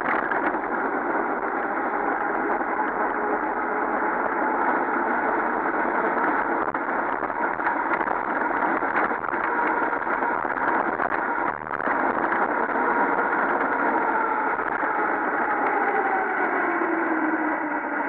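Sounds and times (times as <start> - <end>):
tyres rolling on asphalt: 0.0 - 18.0
wind rushing on microphone: 0.0 - 18.0.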